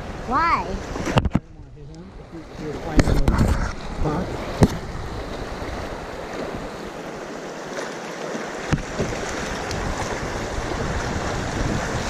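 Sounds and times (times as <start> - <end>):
creek water rushing: 0.0 - 1.2, 1.8 - 12.0
wind on microphone: 0.0 - 7.2, 8.6 - 12.0.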